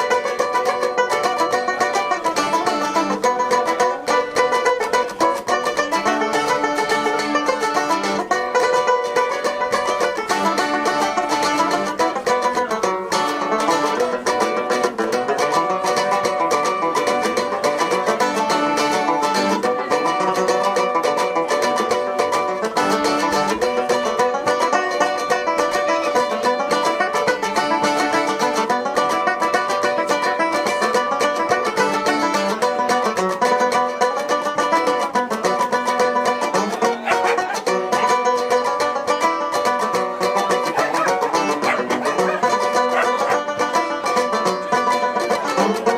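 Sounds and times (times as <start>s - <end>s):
acoustic band playing: 0.0s - 45.9s
fast picking on string instruments: 0.0s - 45.9s.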